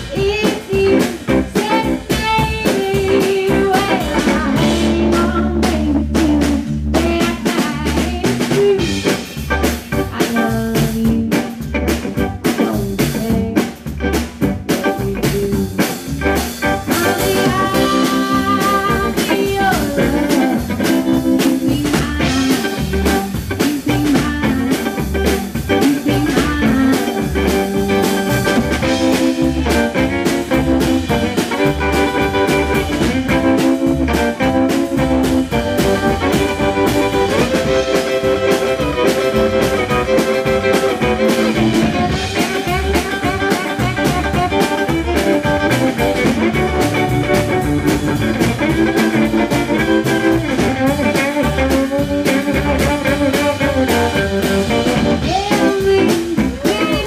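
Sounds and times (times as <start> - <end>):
drums: 0.0 - 57.0
electric guitar lead: 0.0 - 57.0
upright bass: 0.0 - 57.0.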